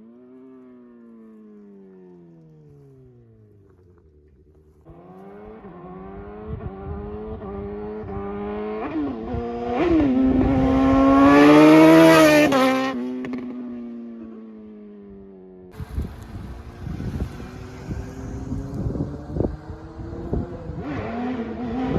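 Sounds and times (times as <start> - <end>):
motorcycle accelerating and shifting gears: 0.0 - 21.9.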